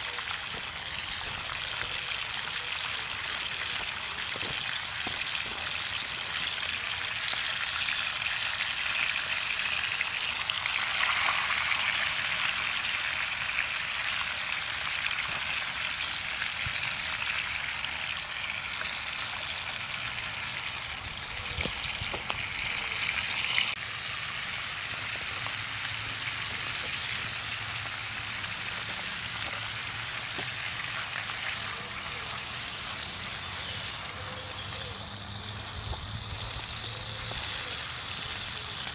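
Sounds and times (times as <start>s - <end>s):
bacon sizzling in a skillet: 0.0s - 38.9s.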